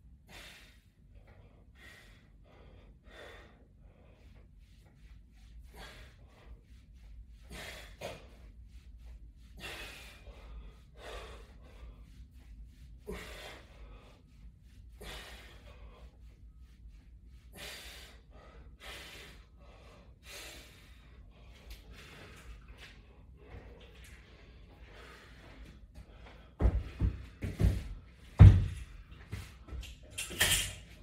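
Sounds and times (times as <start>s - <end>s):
man breathing hard: 0.0s - 4.8s, 5.4s - 28.3s.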